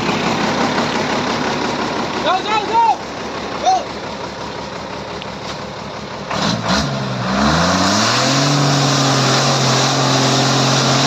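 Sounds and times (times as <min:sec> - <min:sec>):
heavy vehicle engine revving: 0:00.0 - 0:11.0.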